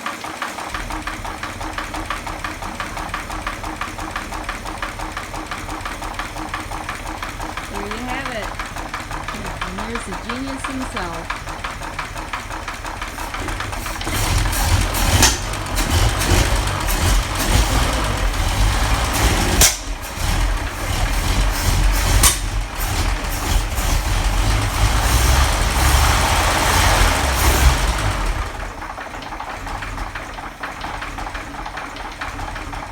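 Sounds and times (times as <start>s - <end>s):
car engine running: 0.0s - 32.9s
sharp engine clicks: 0.0s - 32.9s.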